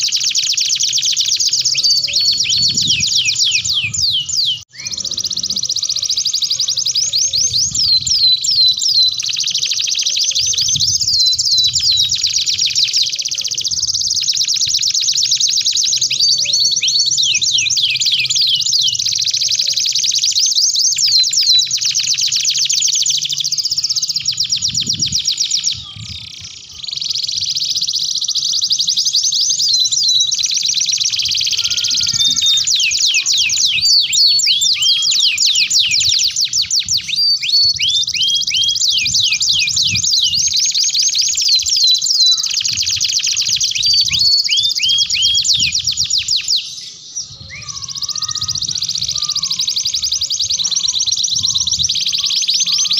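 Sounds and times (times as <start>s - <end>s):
canaries singing trills: 0.0s - 52.9s.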